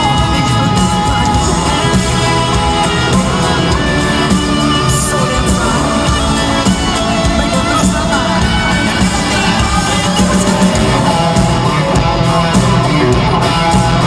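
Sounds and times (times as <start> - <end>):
crowd shouting: 0.0 - 14.0
live rock band playing: 0.0 - 14.0.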